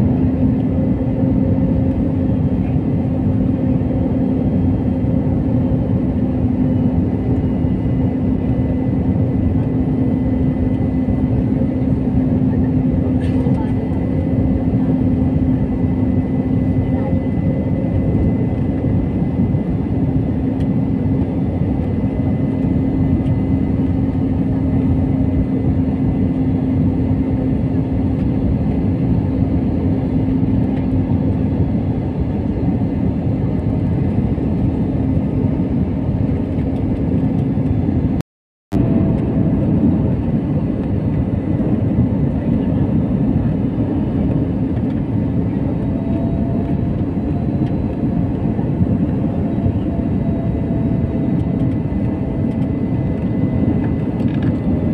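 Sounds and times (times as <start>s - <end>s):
jet engine and airflow rumble: 0.0s - 54.9s.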